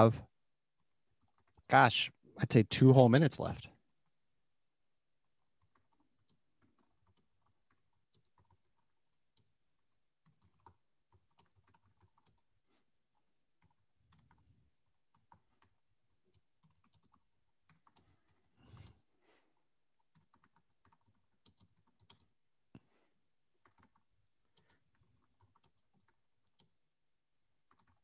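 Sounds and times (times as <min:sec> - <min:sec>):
faint keyboard typing: 0:00.7 - 0:01.7, 0:05.2 - 0:28.0.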